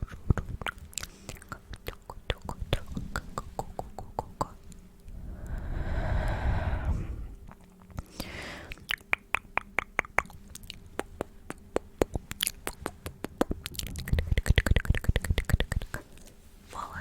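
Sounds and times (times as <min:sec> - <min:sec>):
mouth and tongue clicks: 0:00.0 - 0:16.3.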